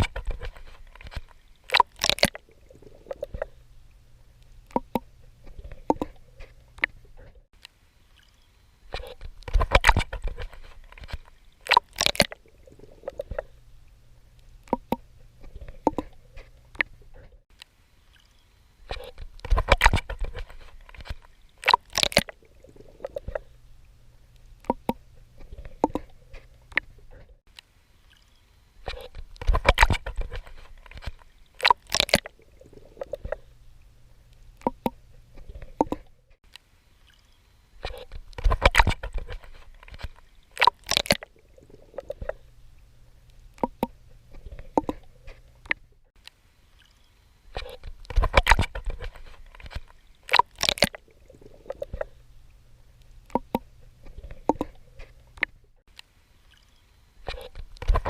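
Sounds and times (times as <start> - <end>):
water splashing from swimming: 0.0 - 7.4, 8.1 - 17.4, 18.0 - 27.4, 28.0 - 36.2, 36.8 - 58.0.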